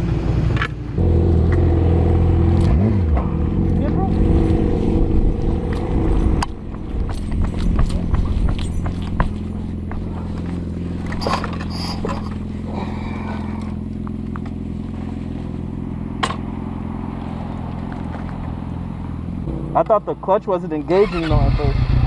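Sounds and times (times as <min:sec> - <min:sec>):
motorcycle engine idling: 0:03.6 - 0:22.0.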